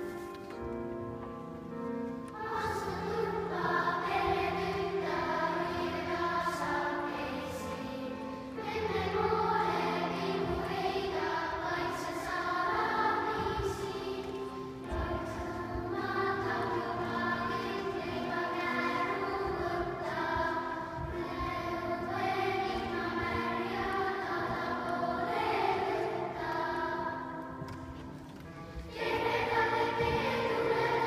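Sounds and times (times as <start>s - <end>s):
children's choir singing a hymn: 0.0s - 31.0s.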